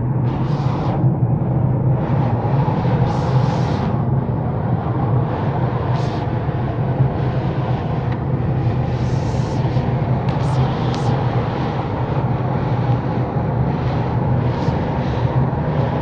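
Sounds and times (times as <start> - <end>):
car engine drone: 0.0 - 16.0.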